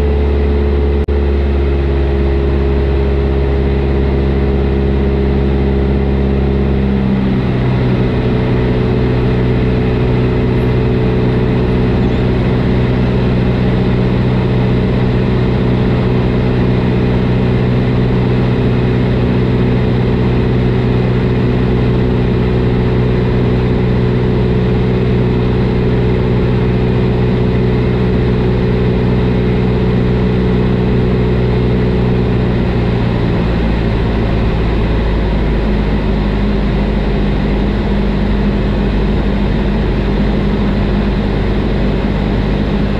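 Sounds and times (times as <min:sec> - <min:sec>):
light aircraft engine drone: 0:00.0 - 0:42.9.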